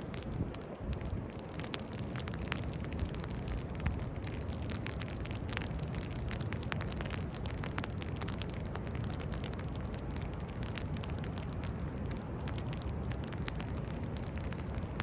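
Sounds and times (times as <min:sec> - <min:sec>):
scattered crackling ticks: 0:00.0 - 0:15.0.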